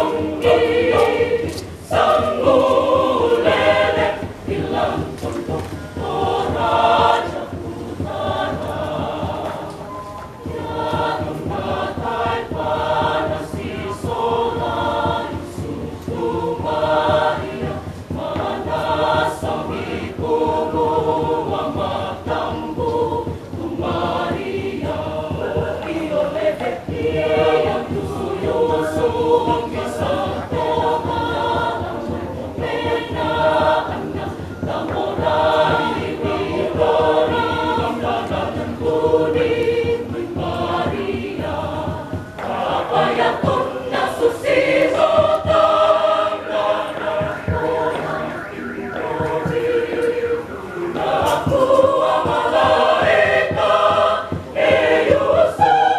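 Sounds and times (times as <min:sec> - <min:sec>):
mixed choir singing in harmony: 0:00.0 - 0:55.9.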